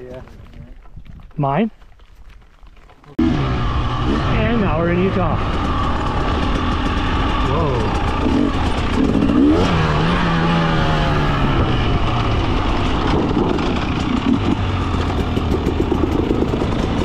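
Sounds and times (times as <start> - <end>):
two-stroke dirt bike engine: 3.1 - 17.0.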